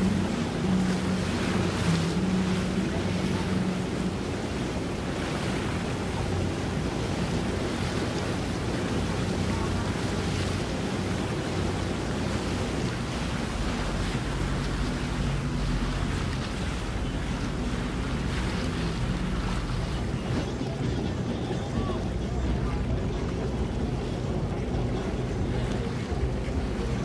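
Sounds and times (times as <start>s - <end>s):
open water washing: 0.0s - 27.0s.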